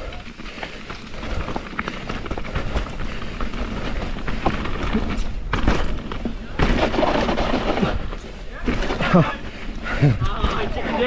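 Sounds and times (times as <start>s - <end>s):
bike clattering over bumps: 0.0s - 11.0s
tyre noise on dirt: 0.0s - 11.0s.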